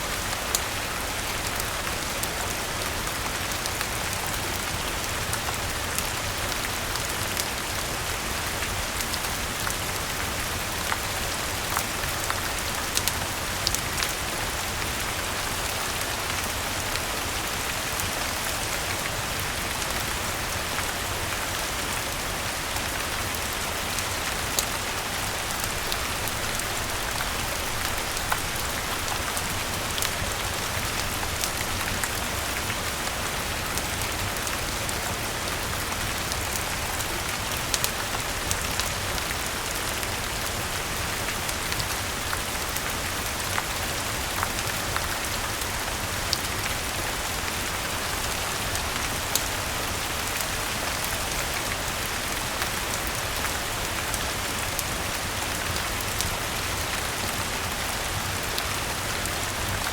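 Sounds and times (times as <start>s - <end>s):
rain falling on leaves: 0.0s - 59.9s
sharp ticks of raindrops: 0.1s - 59.9s.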